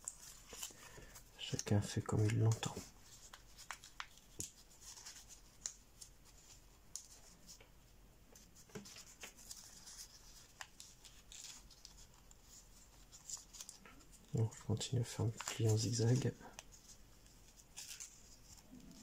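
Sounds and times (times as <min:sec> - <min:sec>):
paper crackling and rustling: 0:00.0 - 0:07.6, 0:08.4 - 0:19.0.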